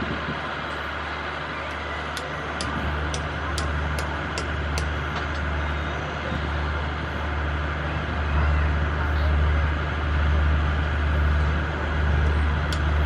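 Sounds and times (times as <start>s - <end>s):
locomotive engine humming: 0.0s - 13.0s.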